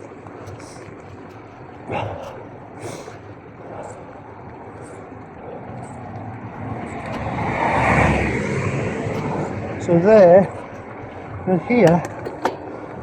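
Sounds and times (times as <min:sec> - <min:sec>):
bicycle tyres hissing on wet surface: 0:00.0 - 0:11.7
motor vehicle passing: 0:01.6 - 0:13.0.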